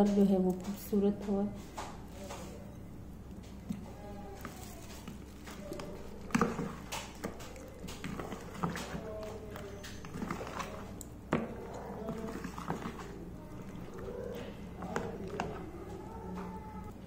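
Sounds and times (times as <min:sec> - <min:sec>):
wet squelching of marinade: 0:03.2 - 0:16.9.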